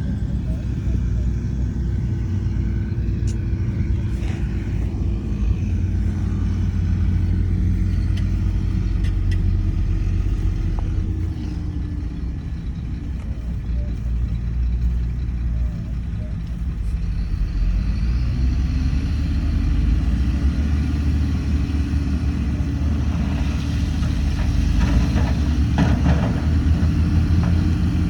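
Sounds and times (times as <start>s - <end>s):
heavy diesel engine droning: 0.0s - 28.0s.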